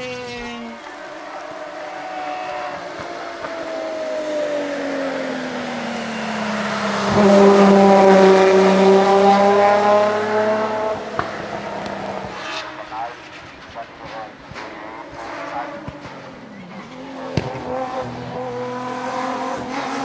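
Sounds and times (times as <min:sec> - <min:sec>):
race car engine passing by: 0:00.0 - 0:20.0.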